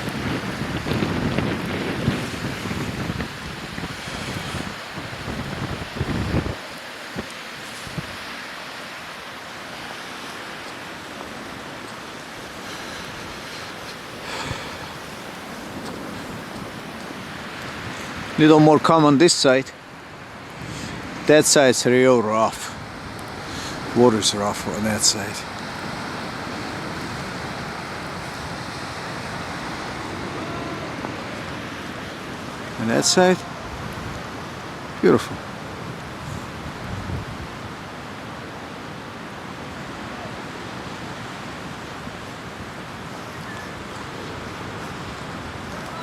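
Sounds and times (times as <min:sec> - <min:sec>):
waves breaking on shore: 0:00.0 - 0:46.0
wind blowing: 0:00.0 - 0:46.0.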